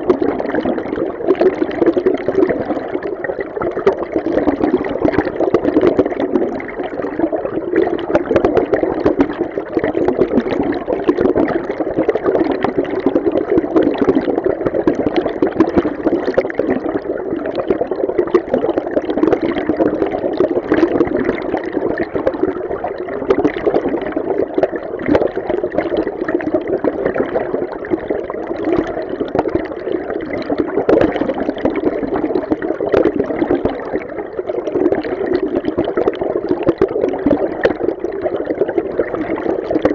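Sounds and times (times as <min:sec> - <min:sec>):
muffled underwater water rush: 0:00.0 - 0:39.9.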